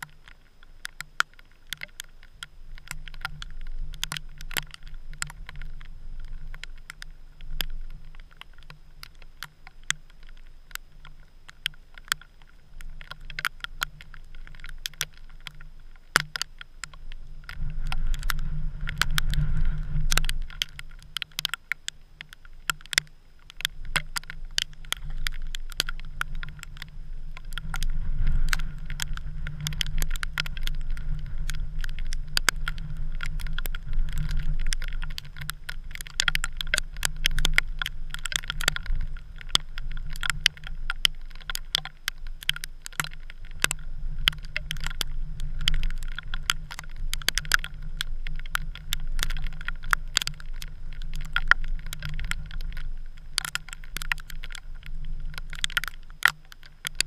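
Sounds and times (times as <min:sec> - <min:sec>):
sharp clicks and rattles: 0:00.0 - 0:57.0.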